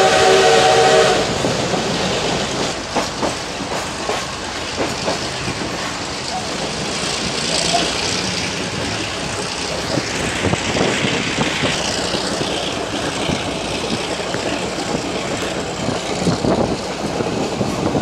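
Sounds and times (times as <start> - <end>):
train rumble and rushing air: 0.0 - 18.0
train wheels clacking on rails: 0.0 - 18.0.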